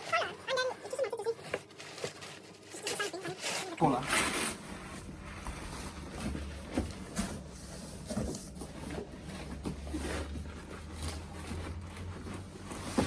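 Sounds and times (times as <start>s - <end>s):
cardboard box being handled: 1.2s - 13.0s.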